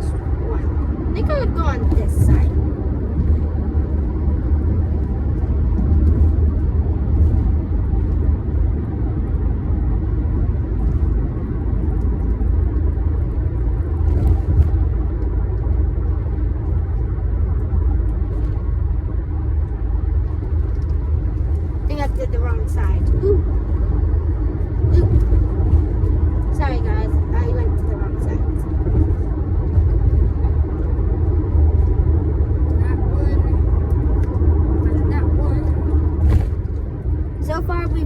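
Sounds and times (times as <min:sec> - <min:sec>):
steady low rumble: 0:00.0 - 0:38.0.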